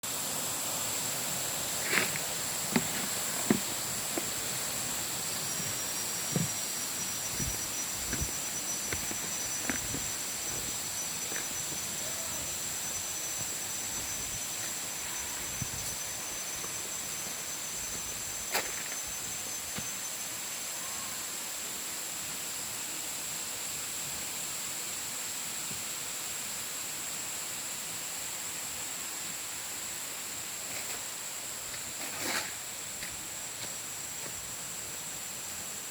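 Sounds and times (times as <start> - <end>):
waterfall hissing: 0.0 - 35.9
high insect drone: 0.1 - 35.9.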